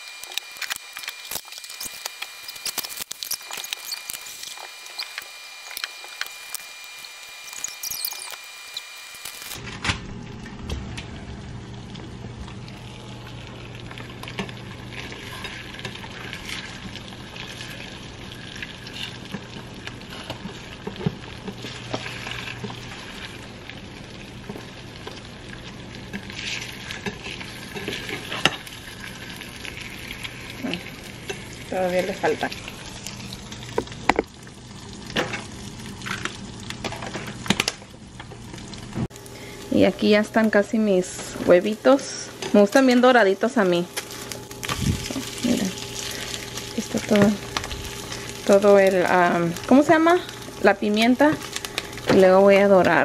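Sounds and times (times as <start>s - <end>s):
eggs sizzling in a pan: 0.0s - 9.6s, 11.3s - 53.0s.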